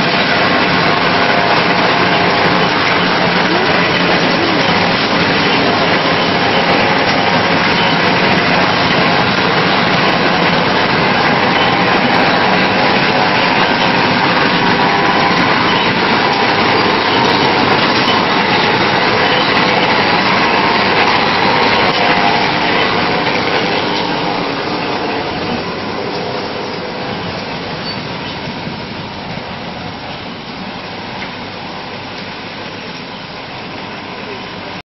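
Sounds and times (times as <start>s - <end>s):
machinery mechanical din: 0.0s - 34.8s.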